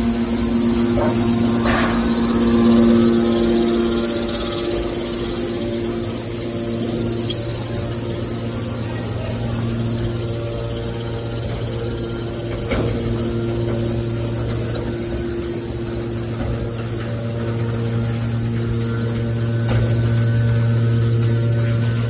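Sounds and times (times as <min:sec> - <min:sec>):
hydraulic power unit humming: 0:00.0 - 0:22.0.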